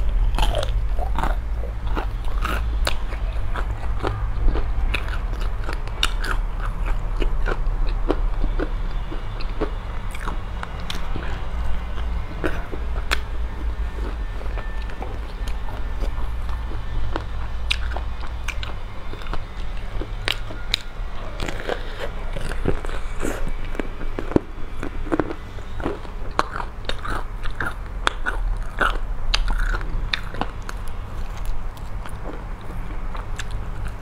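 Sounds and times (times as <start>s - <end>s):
crunchy fried chicken chewing: 0.0s - 34.0s
steady low hum: 0.0s - 34.0s.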